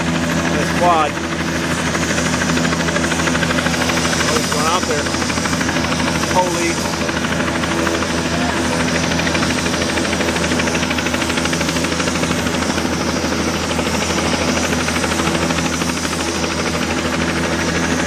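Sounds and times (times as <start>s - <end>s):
engine and turbine drone: 0.0s - 18.0s
helicopter rotor chopping: 0.0s - 18.0s.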